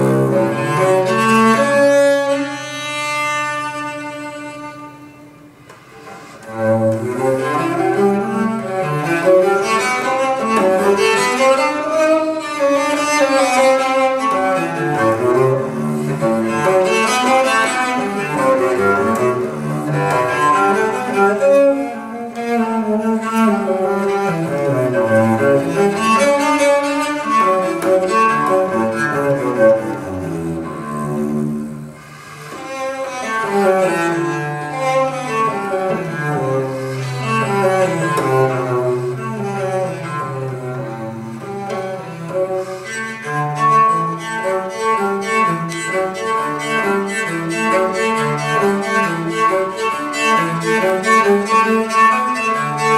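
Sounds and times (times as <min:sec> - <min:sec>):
bowed cello melody: 0:00.0 - 0:52.9.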